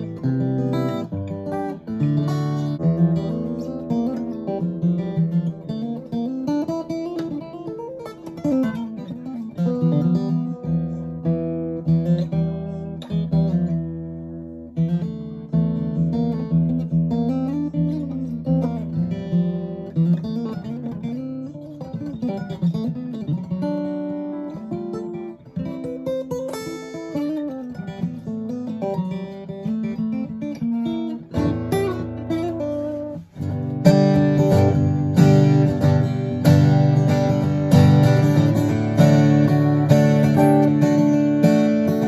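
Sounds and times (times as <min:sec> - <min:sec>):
acoustic guitar melody: 0:00.0 - 0:42.0.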